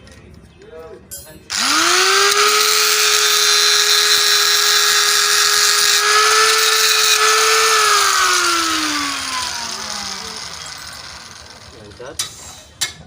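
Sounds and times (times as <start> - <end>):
power tool grinding metal: 1.5 - 12.3.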